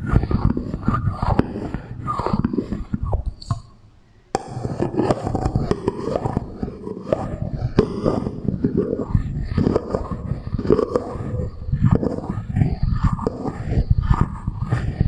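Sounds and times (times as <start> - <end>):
clicks and scrapes with echo: 0.0 - 15.0.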